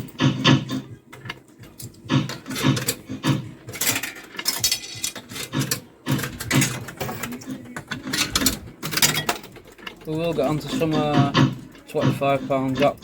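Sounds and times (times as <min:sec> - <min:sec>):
mechanical clicking and clattering: 0:00.0 - 0:13.0.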